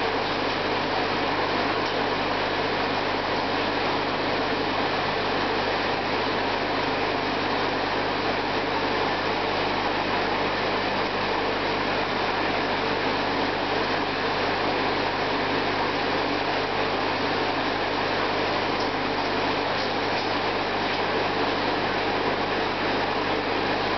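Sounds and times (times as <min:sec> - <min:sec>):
low electric hum: 0:00.0 - 0:23.9.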